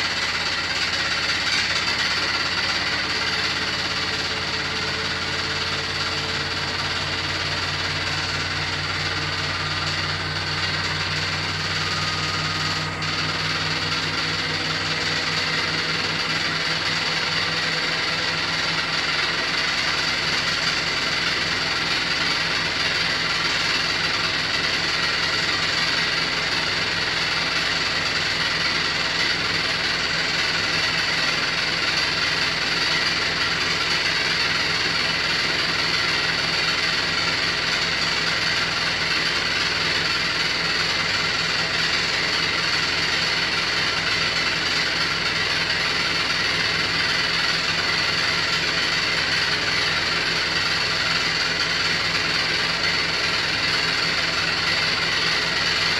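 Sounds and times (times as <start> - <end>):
washing machine rattling: 0.0 - 55.9.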